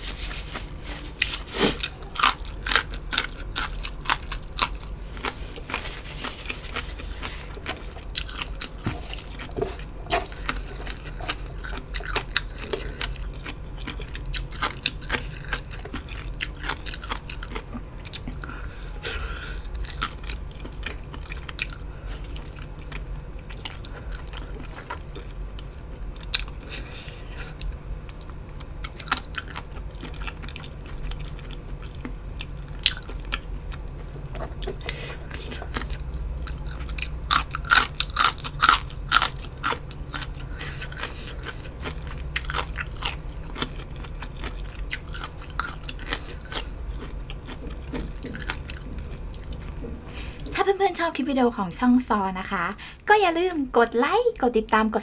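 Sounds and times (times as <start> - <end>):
person chewing and crunching food: 0.0 - 50.6.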